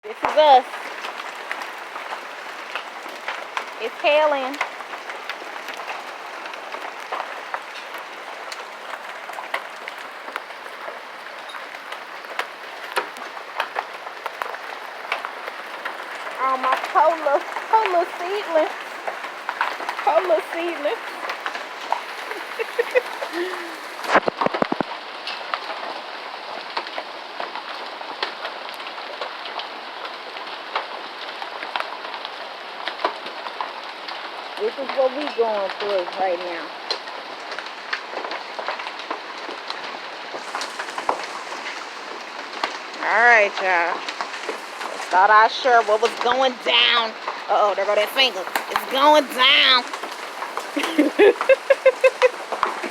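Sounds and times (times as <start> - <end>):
hailstones pattering: 0.0 - 52.9.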